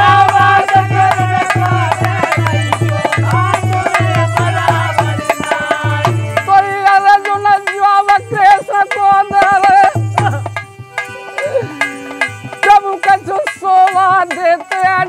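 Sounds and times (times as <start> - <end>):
men singing devotional song: 0.0 - 10.7, 11.5 - 15.0
hand drum beat: 0.0 - 15.0.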